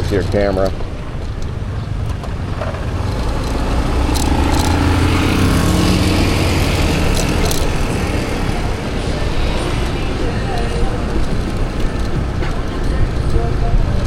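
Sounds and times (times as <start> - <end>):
wind and road noise: 0.0 - 14.0
motorbike engine running: 0.3 - 14.0
helmet bumping camera clicks: 0.6 - 12.7.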